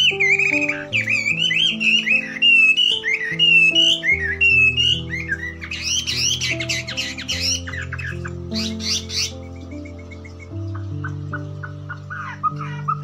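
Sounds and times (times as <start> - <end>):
background music with held notes: 0.0 - 13.0
birdsong chirps and whistles: 0.0 - 13.0.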